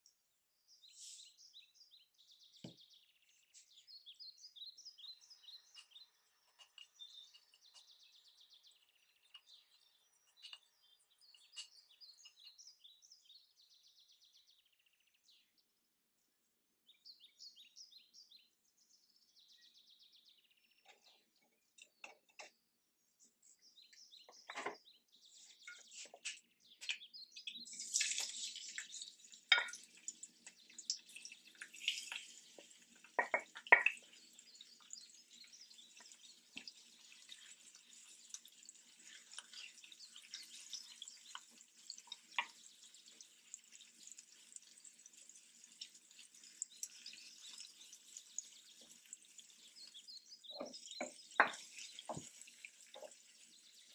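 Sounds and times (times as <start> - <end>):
faint birds chirping: 0.0 - 53.9.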